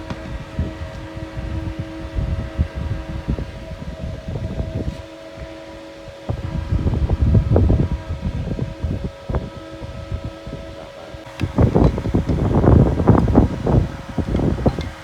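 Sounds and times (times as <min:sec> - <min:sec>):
steady machine hum: 0:00.0 - 0:15.0
wind buffeting microphone: 0:00.0 - 0:15.0.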